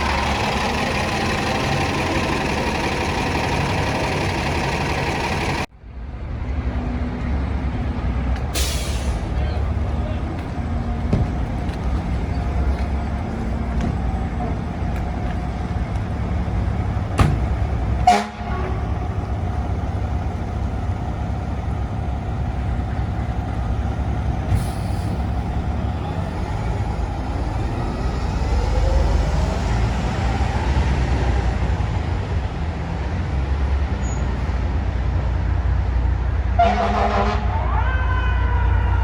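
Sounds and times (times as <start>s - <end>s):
fire truck diesel engine rumbling: 0.0s - 39.0s
street noise: 0.0s - 39.0s.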